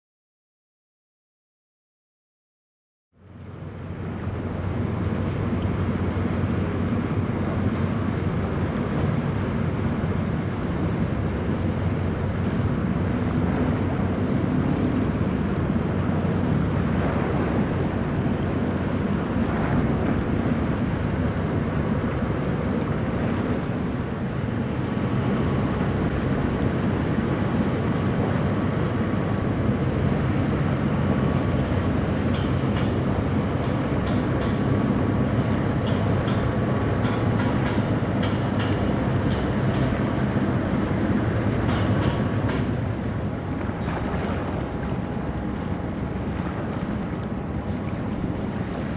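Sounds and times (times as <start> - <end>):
steady low rumble: 3.2 - 48.9
strong wind on microphone: 3.3 - 48.9.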